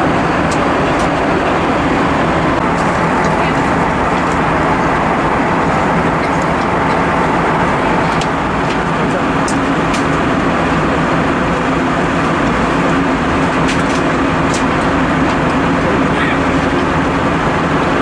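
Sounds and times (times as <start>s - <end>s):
airplane cabin noise: 0.0s - 18.0s.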